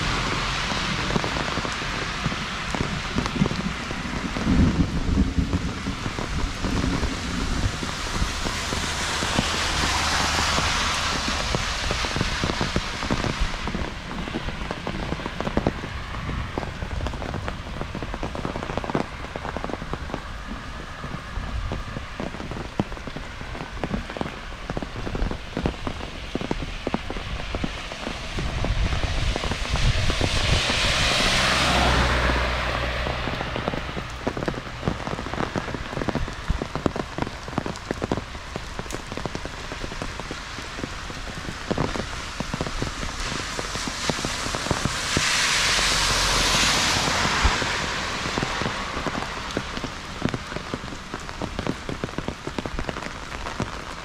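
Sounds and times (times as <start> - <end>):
low rumble: 0.0 - 51.6
heavy rain falling: 0.0 - 54.0.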